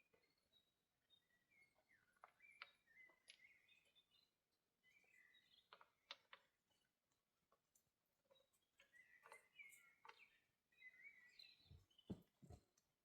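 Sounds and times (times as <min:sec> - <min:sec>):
faint bird chirps: 0:00.0 - 0:06.5, 0:08.3 - 0:12.6.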